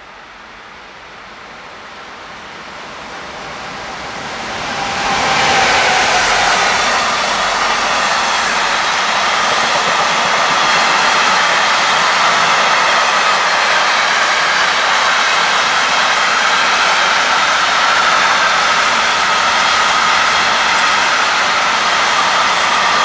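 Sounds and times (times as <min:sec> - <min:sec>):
electric locomotive passing: 0:00.0 - 0:23.0.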